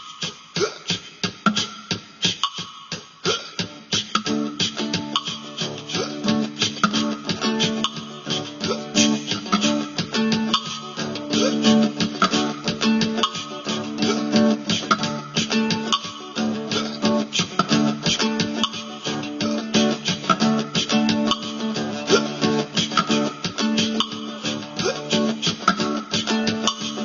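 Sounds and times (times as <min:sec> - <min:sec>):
steady beat: 0:00.0 - 0:27.0
looped plucked guitar: 0:03.6 - 0:27.0.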